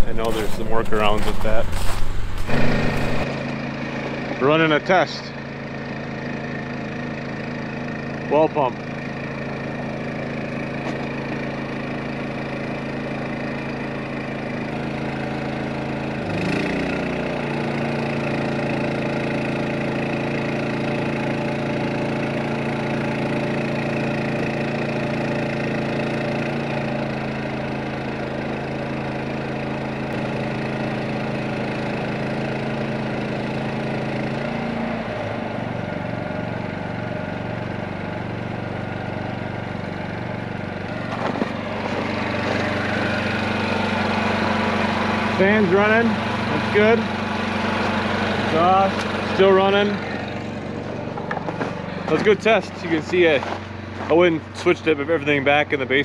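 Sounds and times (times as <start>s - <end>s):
generator running: 0.0s - 56.0s.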